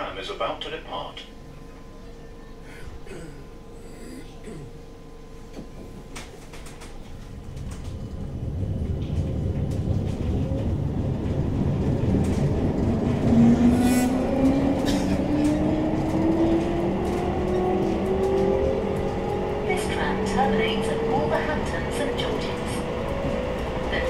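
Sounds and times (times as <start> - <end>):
tram running rumble: 0.0 - 24.0.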